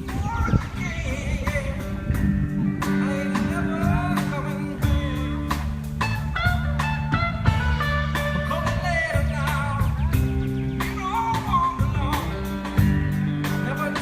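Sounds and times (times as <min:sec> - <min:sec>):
person singing: 0:00.0 - 0:05.9, 0:08.2 - 0:14.0
blues rock music: 0:00.0 - 0:14.0.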